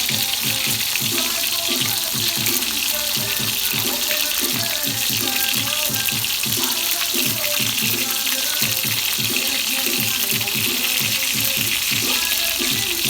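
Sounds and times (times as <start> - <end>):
music playing: 0.0 - 13.0
water running from a tap: 0.0 - 13.0.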